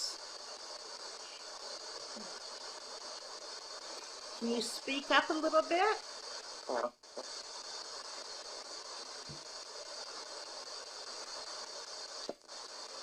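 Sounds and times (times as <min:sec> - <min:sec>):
radio static hissing: 0:00.0 - 0:13.0.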